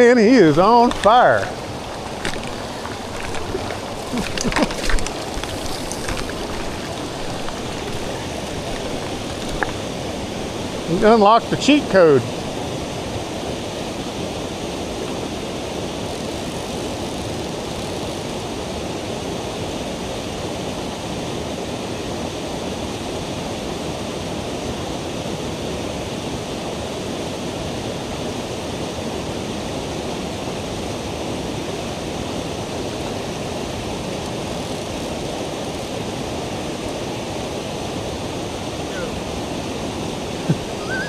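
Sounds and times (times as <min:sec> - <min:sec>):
river water flowing: 0:00.0 - 0:41.0.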